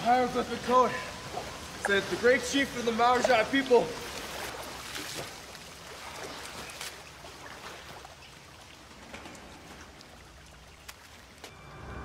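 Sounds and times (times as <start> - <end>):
water dripping and trickling: 0.0 - 11.5.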